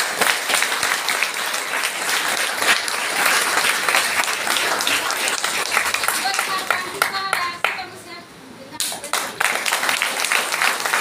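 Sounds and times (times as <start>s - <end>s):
audience applauding: 0.0s - 7.8s, 9.1s - 11.0s.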